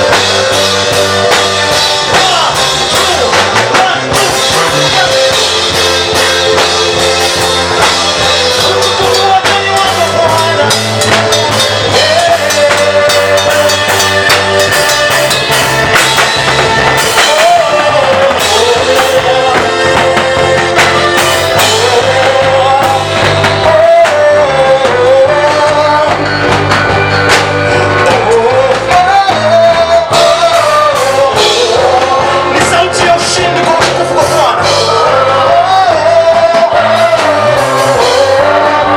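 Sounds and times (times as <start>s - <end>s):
person singing a melody: 0.0s - 15.7s, 16.8s - 26.6s, 28.0s - 38.9s
band with bass and drums: 0.0s - 38.9s.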